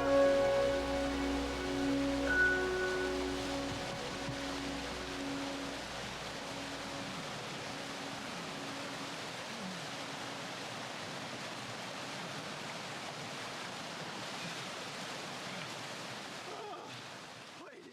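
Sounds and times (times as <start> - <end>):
river water rushing: 0.0 - 17.5.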